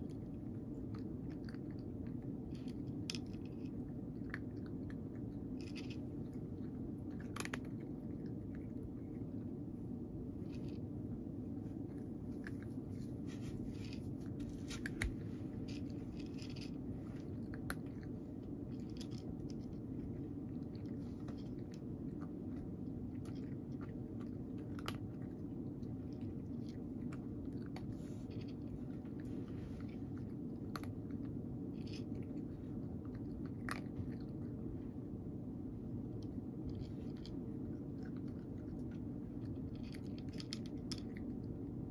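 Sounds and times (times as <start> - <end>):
cat crunching dry kibble: 0.0 - 41.9
low background hum: 0.0 - 41.9.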